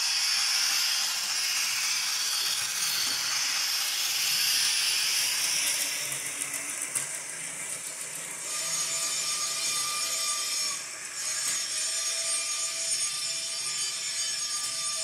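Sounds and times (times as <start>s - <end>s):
model trains hissing: 0.0s - 15.0s.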